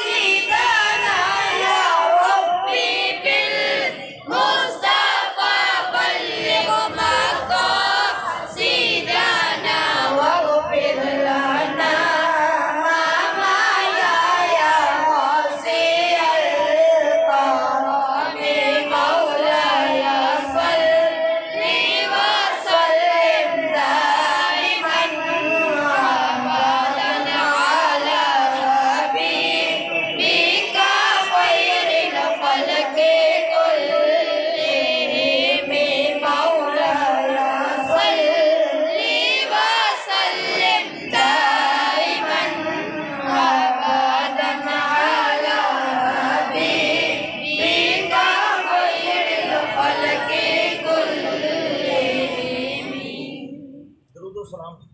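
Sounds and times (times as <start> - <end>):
unaccompanied ornamented singing: 0.0 - 54.0.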